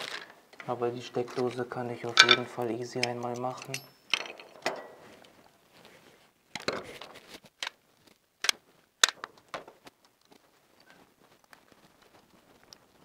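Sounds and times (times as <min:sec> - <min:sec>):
wires clicking and rustling: 0:00.0 - 0:13.0.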